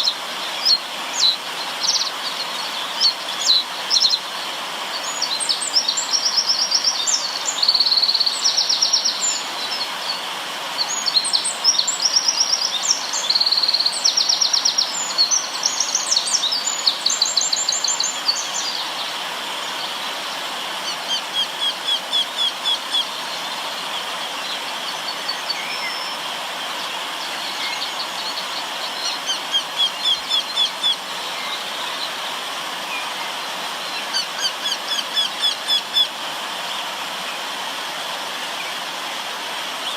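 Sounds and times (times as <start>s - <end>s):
songbirds singing: 0.0s - 37.6s
river water flowing: 0.0s - 39.9s.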